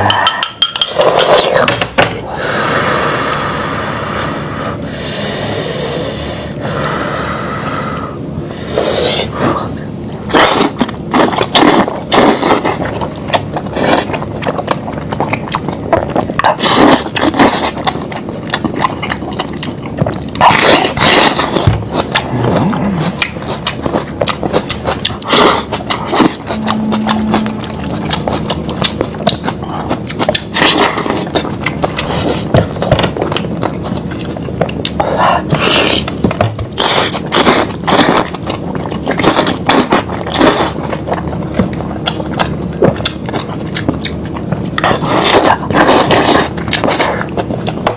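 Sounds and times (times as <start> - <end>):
person chewing meat: 0.0 - 47.9.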